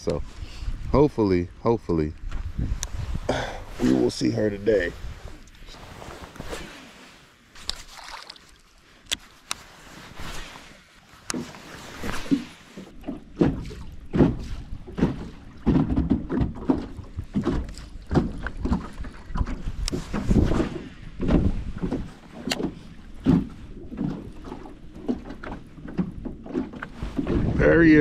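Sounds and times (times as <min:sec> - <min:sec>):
water lapping against boat hull: 0:02.2 - 0:28.0.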